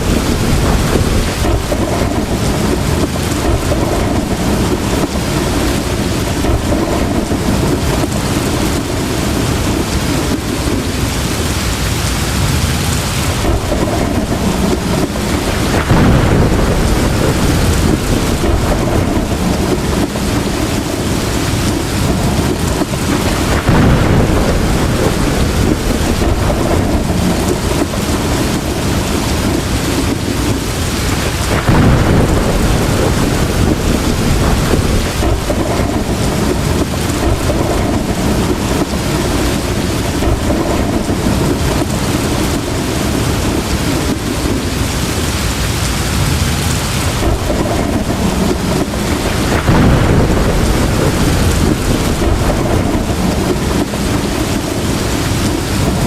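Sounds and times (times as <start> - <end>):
heavy rain pouring: 0.0 - 56.0
thunder rumbling: 0.0 - 56.0.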